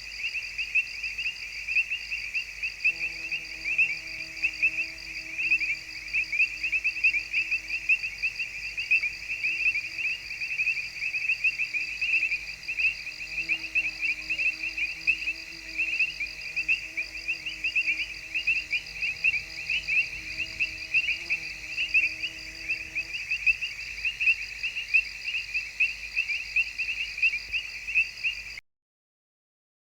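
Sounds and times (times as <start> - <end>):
crickets chirping: 0.0 - 28.6.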